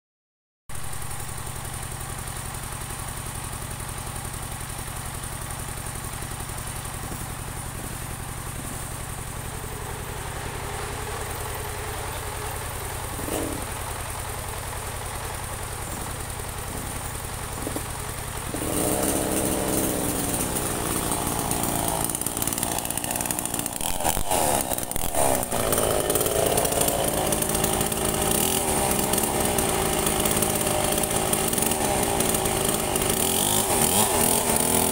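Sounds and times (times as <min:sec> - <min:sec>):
sawmill engine running: 0:00.7 - 0:34.9.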